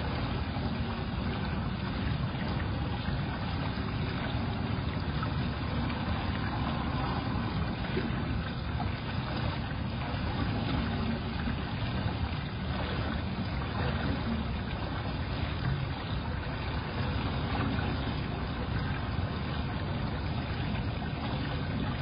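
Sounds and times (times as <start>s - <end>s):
low rumble and hiss: 0.0s - 22.0s.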